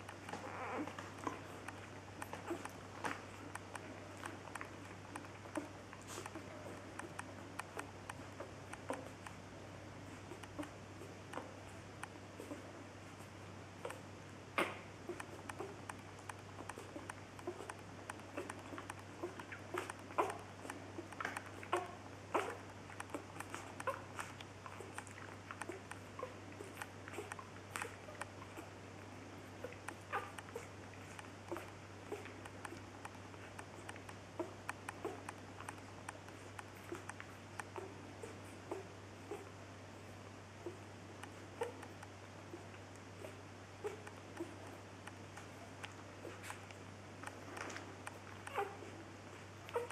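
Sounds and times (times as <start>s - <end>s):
puppies suckling: 0.0s - 49.9s.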